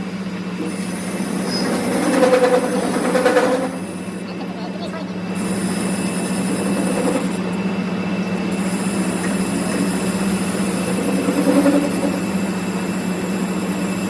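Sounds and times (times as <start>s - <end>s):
workshop machine humming: 0.0s - 14.0s.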